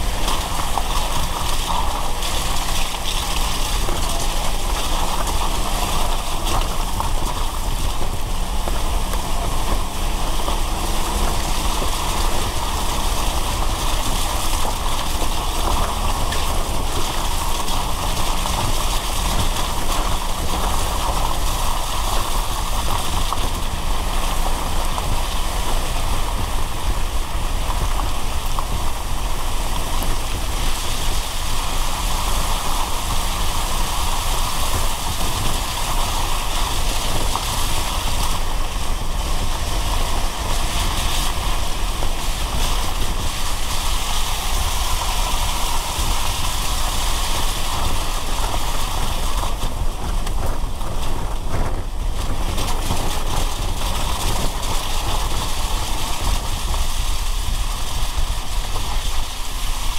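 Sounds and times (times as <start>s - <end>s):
car rumble: 0.0s - 59.9s
rain hiss: 0.0s - 59.9s
wet road noise: 0.0s - 59.9s.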